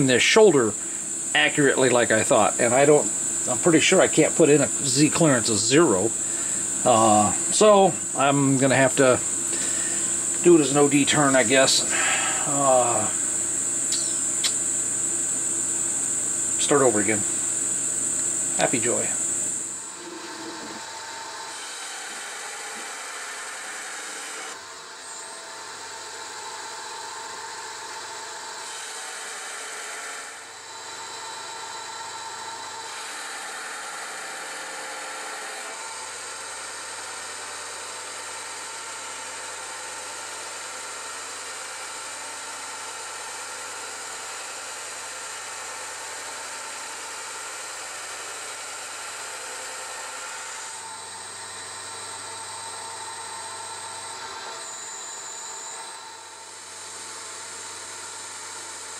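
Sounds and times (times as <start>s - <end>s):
metal lathe whirring with high whine: 0.0s - 58.9s.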